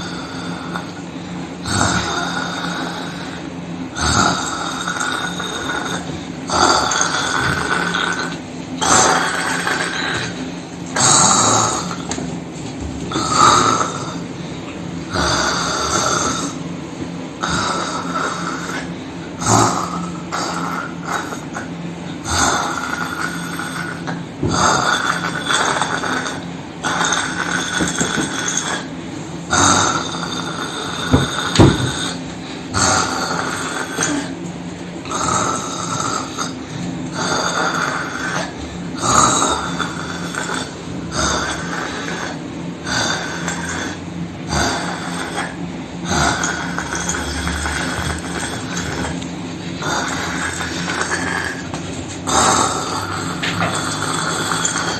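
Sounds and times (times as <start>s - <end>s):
loud snoring: 0.0s - 54.9s.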